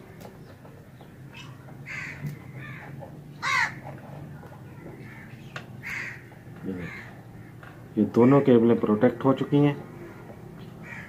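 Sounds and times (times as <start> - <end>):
bird harsh calls: 0.0 - 11.0.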